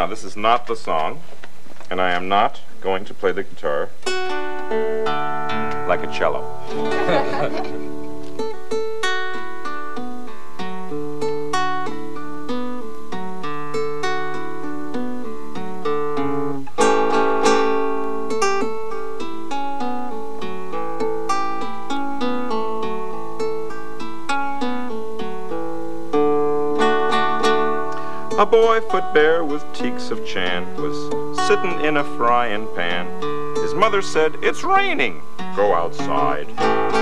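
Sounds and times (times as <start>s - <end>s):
classical guitar playing: 3.9s - 37.0s.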